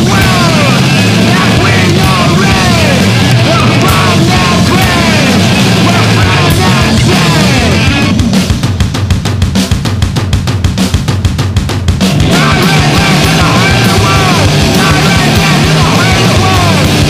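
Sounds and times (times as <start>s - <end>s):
distorted rock band: 0.0s - 17.0s.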